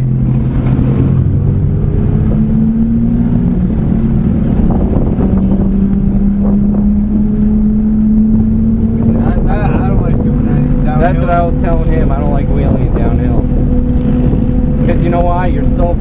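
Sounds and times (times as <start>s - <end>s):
road and wind noise: 0.0s - 16.0s
small truck engine hum: 0.0s - 16.0s.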